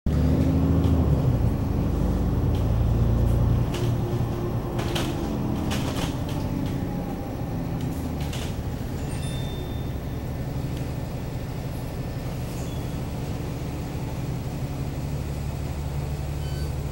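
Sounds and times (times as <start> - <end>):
bus engine and road rumble: 0.1 - 16.9.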